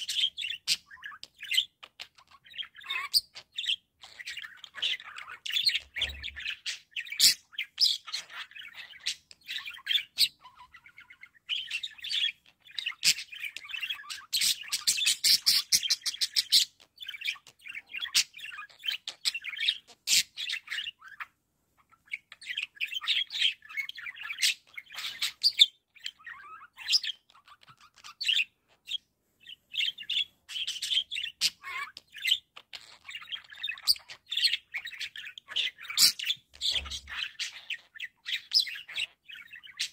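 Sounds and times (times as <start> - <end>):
budgerigar warbling and chattering: 0.0 - 39.9.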